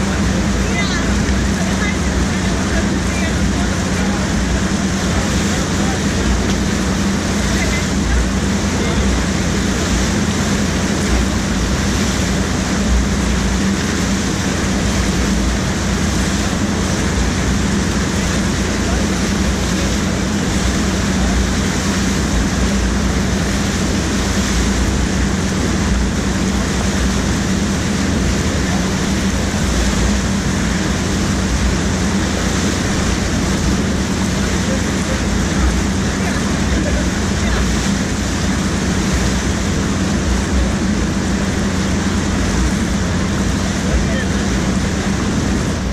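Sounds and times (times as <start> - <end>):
churning water rushing: 0.0 - 45.9.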